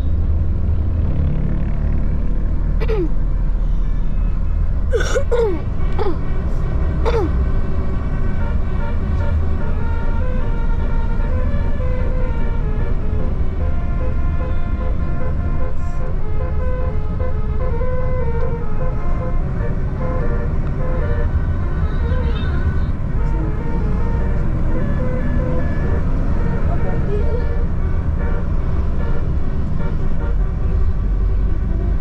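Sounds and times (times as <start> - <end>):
large vehicle engine rumbling: 0.0 - 32.0.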